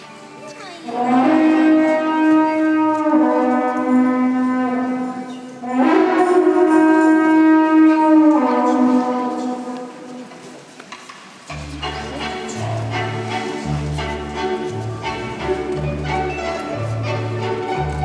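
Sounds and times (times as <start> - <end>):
long wooden horn notes: 0.8 - 10.5, 11.5 - 18.0.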